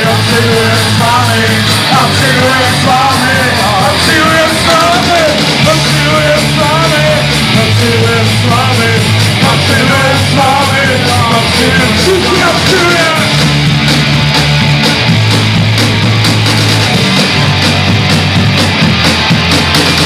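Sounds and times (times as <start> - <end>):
rock band playing loudly: 0.0 - 20.0.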